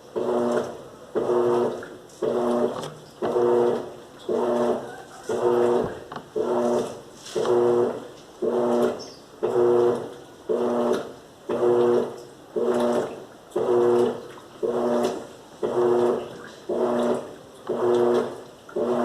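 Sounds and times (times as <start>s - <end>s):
washing machine motor humming: 0.0s - 19.0s
water and clothes swishing: 0.0s - 19.0s.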